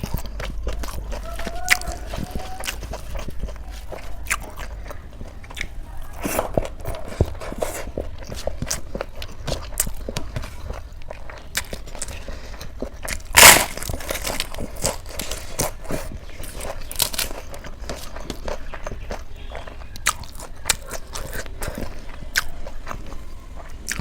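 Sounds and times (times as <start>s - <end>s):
loud crunchy bite: 0.0s - 24.0s
wet chewing and mouth clicks: 0.0s - 24.0s.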